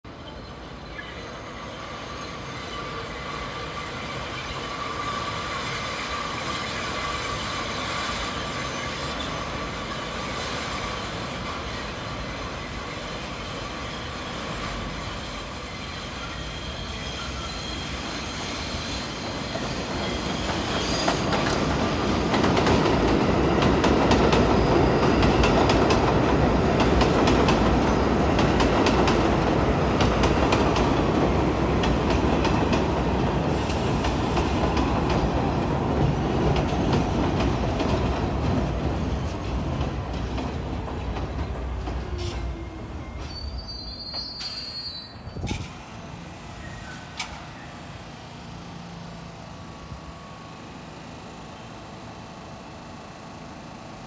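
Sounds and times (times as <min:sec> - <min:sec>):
subway train whine and rumble: 0:00.1 - 0:54.0.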